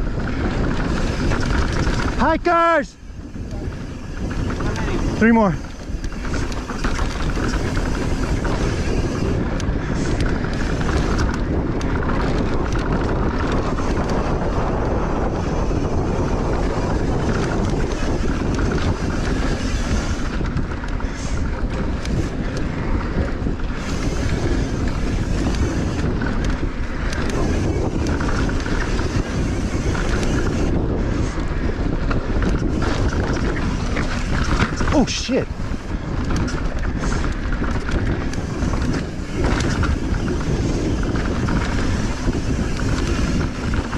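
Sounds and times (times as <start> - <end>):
bike rattling over bumps: 0.0 - 43.9
bike tyres rumbling on dirt: 0.0 - 43.9
wind on microphone: 0.0 - 43.9.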